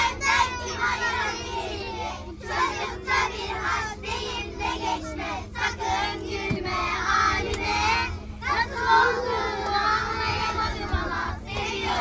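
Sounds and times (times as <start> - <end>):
children singing in chorus: 0.0 - 12.0
low hum of coach: 0.0 - 12.0.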